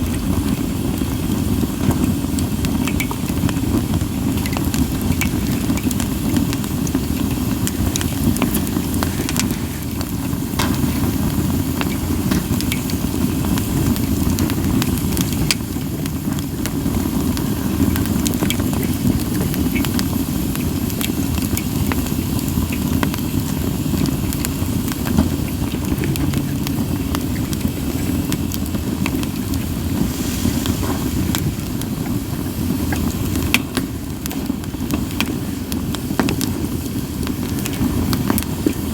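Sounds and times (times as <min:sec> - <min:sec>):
campfire crackles and pops: 0:00.0 - 0:38.9
fire low rush: 0:00.0 - 0:38.9.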